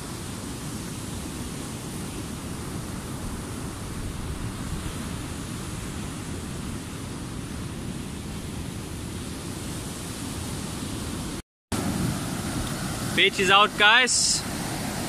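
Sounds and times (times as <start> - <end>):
wind on microphone: 0.0 - 13.2
ocean surf breaking: 0.0 - 15.0.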